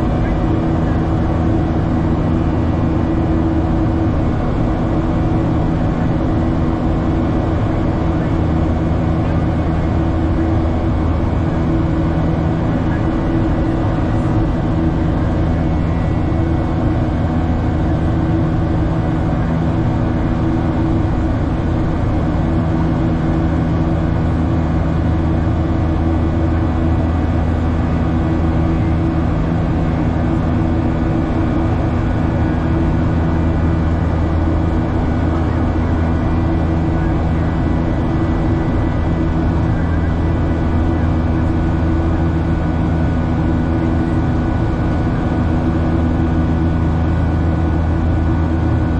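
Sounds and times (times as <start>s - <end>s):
cabin airflow rush: 0.0s - 48.9s
jet engines droning: 0.0s - 48.9s.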